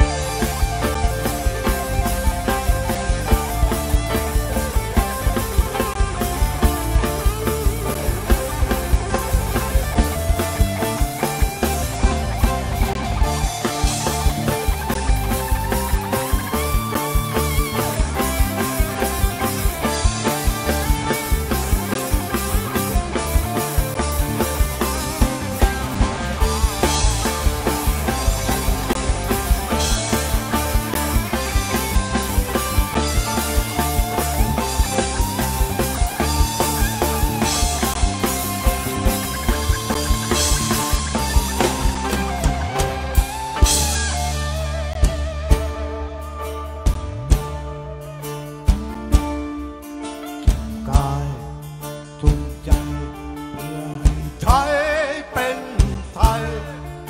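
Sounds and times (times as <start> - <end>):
drum kit beat: 0.0 - 57.0
rock band playing: 0.0 - 57.0.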